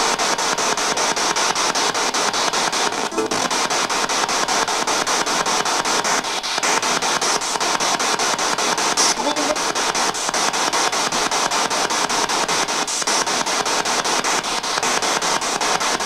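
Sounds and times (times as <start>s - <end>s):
chopped radio static hiss: 0.0s - 16.0s.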